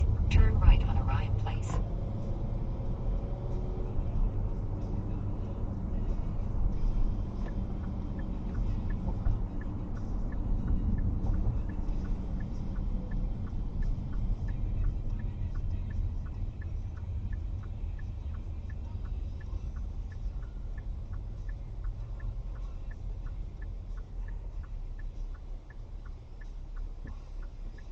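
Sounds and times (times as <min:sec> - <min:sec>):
car engine and road noise: 0:00.0 - 0:27.9
light steady ticking: 0:00.0 - 0:27.9.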